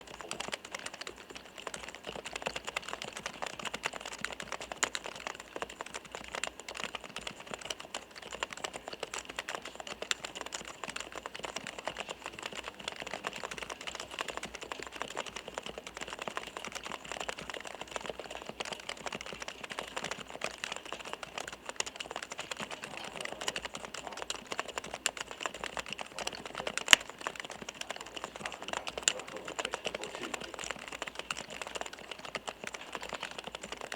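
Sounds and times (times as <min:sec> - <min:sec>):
rapid keyboard typing: 0:00.0 - 0:33.9.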